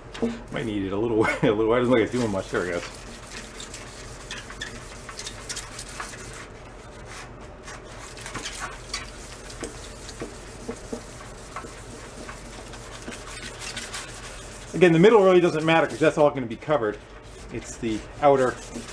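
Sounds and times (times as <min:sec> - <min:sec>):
steady low hum: 0:00.0 - 0:18.9
wet sandpaper rubbing on metal: 0:01.7 - 0:18.9.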